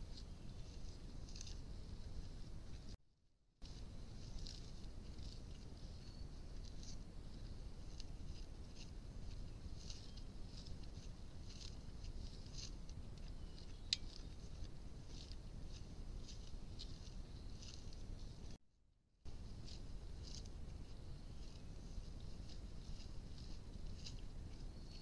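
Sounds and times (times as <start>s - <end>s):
bear chewing grass: 0.1s - 2.9s, 3.6s - 18.6s, 19.3s - 25.0s
low background noise: 3.6s - 18.6s, 19.3s - 25.0s.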